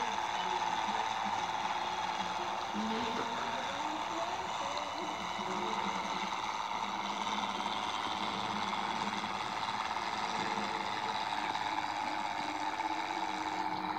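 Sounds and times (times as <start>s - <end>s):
motorized toy tractor whirring: 0.0s - 13.9s.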